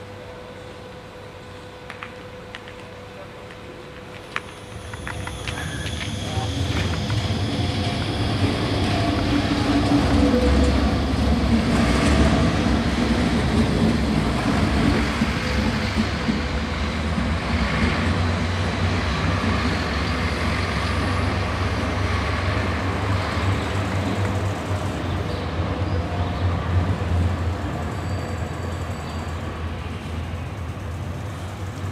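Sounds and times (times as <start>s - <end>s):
road traffic: 0.0s - 31.9s
tram low rumble: 0.0s - 31.9s
diesel bus passing: 4.3s - 31.9s.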